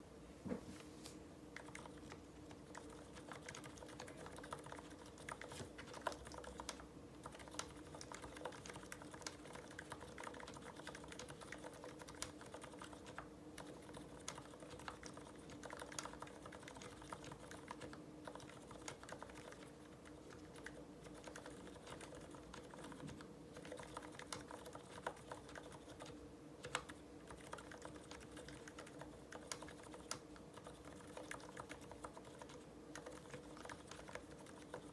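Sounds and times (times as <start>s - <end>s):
quiet keyboard keystroke clicks: 1.6s - 34.9s.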